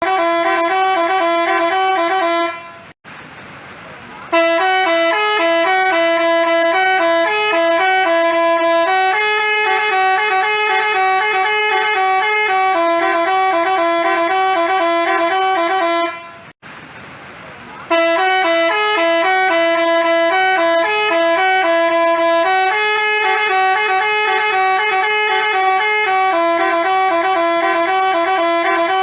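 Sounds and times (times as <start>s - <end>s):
multi-tone bus horn tune: 0.0s - 3.0s, 4.3s - 16.6s, 17.8s - 29.0s.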